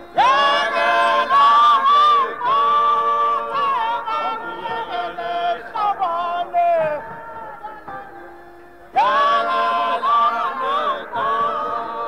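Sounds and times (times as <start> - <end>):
voices singing long notes: 0.0 - 12.0.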